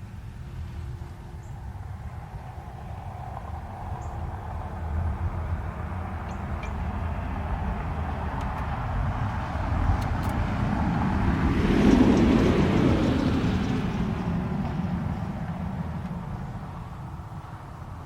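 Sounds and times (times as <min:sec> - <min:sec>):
passing vehicle engine and road rumble: 0:00.0 - 0:18.0.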